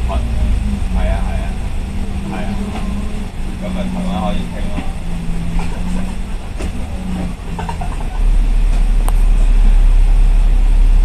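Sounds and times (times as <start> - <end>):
bus engine and road noise: 0.0 - 11.0
deep rumble: 0.0 - 11.0.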